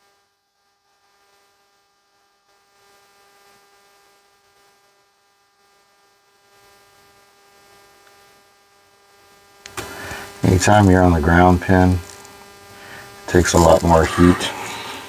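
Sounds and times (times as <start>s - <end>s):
faint electrical hum: 0.1s - 15.0s
low room hiss: 0.9s - 15.0s.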